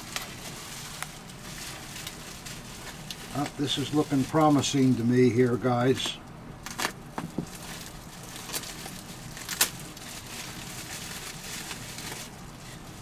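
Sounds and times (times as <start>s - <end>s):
bubble wrap rustling and crackling: 0.0s - 13.0s.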